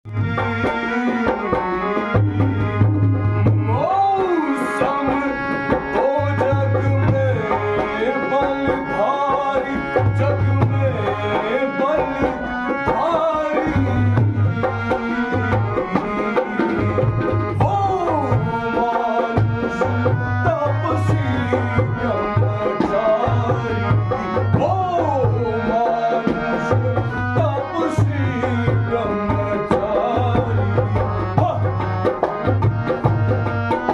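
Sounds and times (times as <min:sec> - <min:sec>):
held accompaniment tones: 0:00.1 - 0:33.9
tabla playing: 0:00.1 - 0:33.9
person singing: 0:03.6 - 0:32.2.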